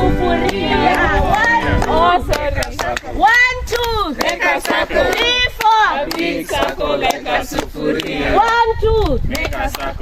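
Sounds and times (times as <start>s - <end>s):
group chanting and shouting: 0.0s - 10.0s
hand claps: 0.4s - 9.9s.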